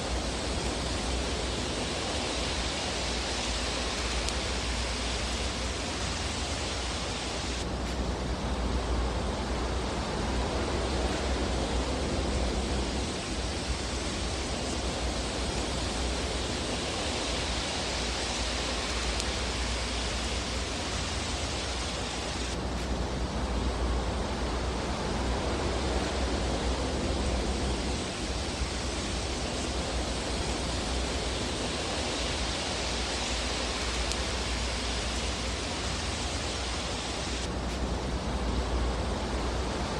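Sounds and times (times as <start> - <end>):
fire hissing over low rumble: 0.0 - 39.9.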